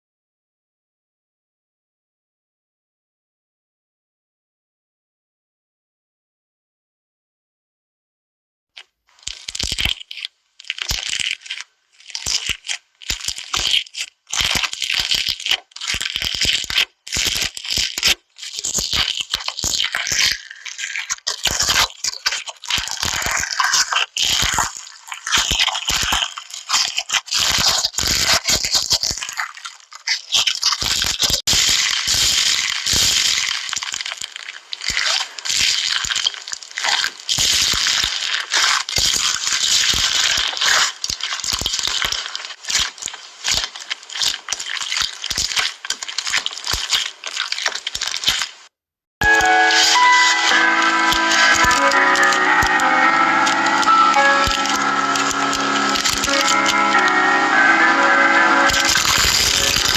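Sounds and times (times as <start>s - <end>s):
slime crackling and clicking: 8.8s - 57.1s, 58.6s - 59.9s.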